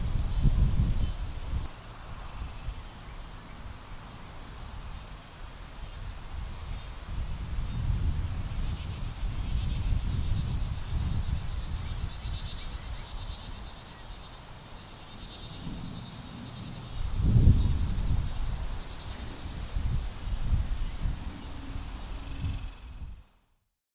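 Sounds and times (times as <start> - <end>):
wind rumble on microphone: 0.0 - 14.4, 15.0 - 23.4
insects chirping: 0.0 - 23.2.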